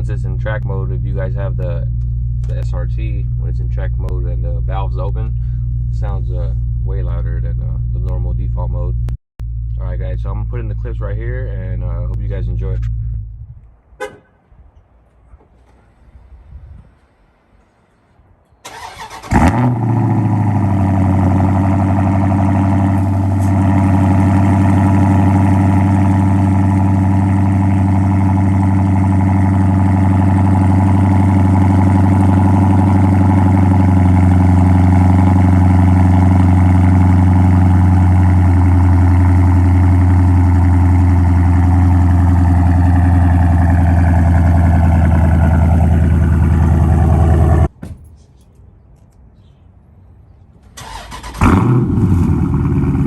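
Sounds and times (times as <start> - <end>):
car engine starting and idling: 0.0 - 48.1, 50.6 - 53.0.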